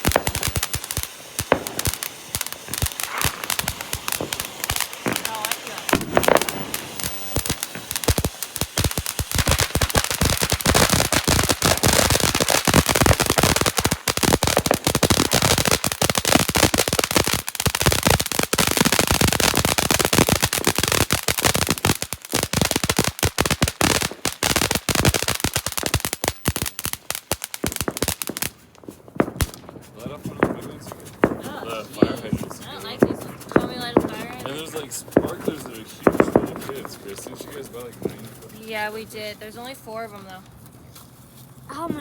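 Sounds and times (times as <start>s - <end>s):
fireworks crackling and popping: 0.0s - 42.0s.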